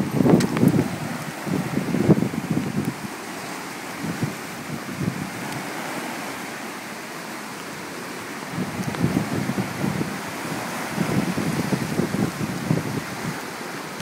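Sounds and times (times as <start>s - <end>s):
waves breaking: 0.0s - 14.0s
wind buffeting microphone: 0.0s - 14.0s.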